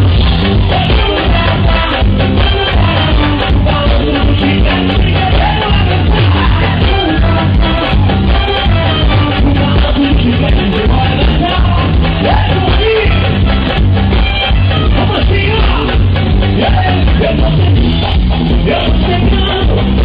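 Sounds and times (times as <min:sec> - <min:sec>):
person singing: 0:00.0 - 0:13.5, 0:14.4 - 0:17.9, 0:18.5 - 0:20.0
band playing loud music: 0:00.0 - 0:20.0
heavy bass line: 0:00.0 - 0:20.0.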